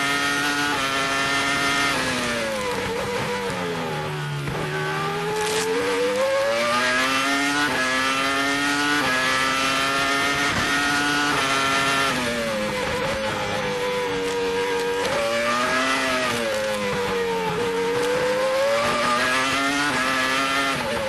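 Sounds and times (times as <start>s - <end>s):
race car engine at high revs: 0.0s - 21.0s.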